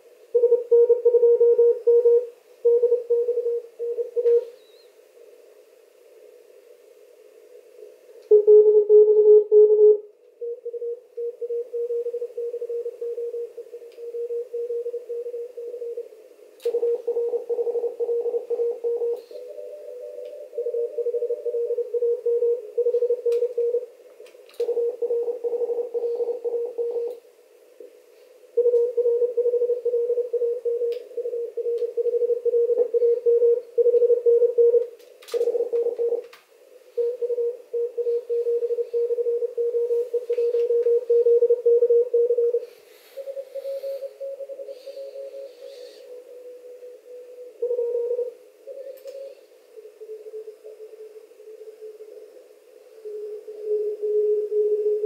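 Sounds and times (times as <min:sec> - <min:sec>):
radio band noise hiss: 0:03.4 - 0:08.4, 0:11.5 - 0:55.0.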